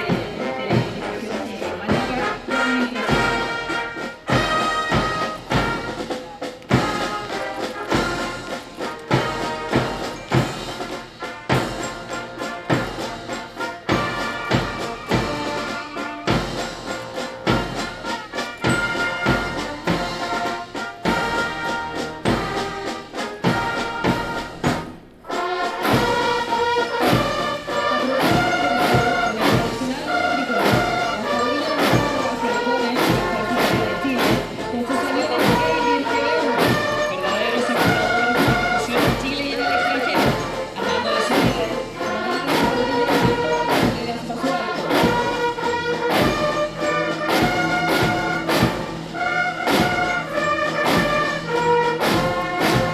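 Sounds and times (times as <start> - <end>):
brass band playing a march: 0.0 - 52.9
steady drum beat: 0.0 - 52.9.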